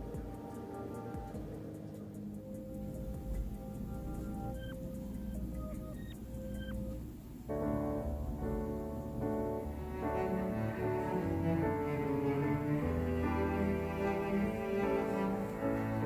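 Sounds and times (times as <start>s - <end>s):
bowed strings: 0.0s - 16.0s
piano: 0.0s - 16.0s.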